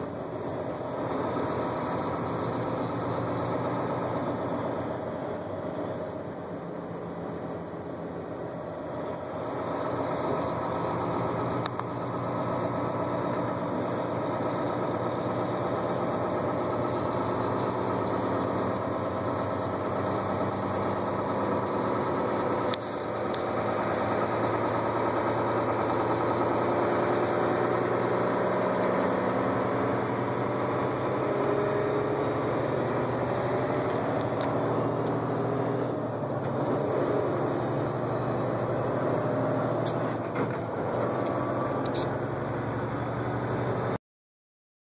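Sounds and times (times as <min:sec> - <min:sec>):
engine hum: 0:00.0 - 0:44.0
road noise: 0:00.0 - 0:44.0.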